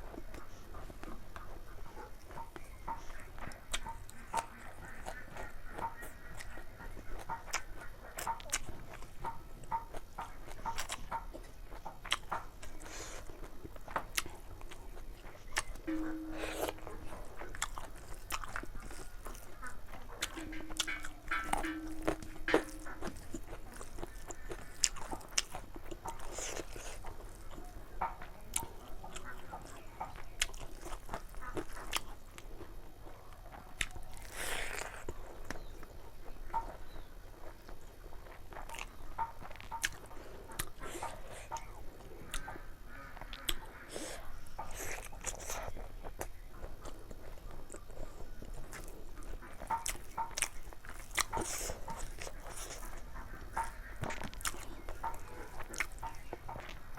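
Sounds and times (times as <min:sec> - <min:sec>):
close chewing and biting: 0:00.0 - 0:56.9.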